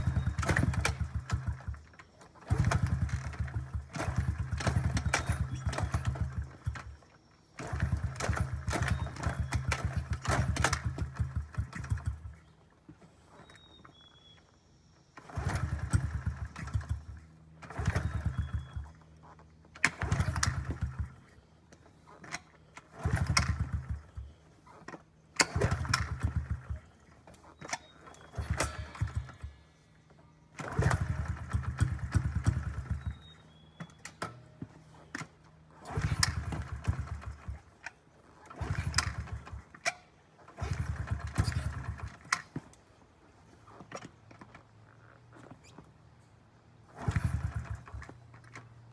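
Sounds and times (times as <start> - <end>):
small engine being kick-started: 0.0 - 46.1, 46.8 - 48.9.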